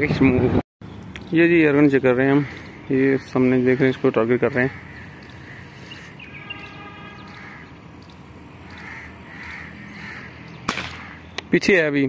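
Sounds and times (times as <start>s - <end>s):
outdoor background noise: 0.0s - 12.0s
birds calling: 0.8s - 12.0s.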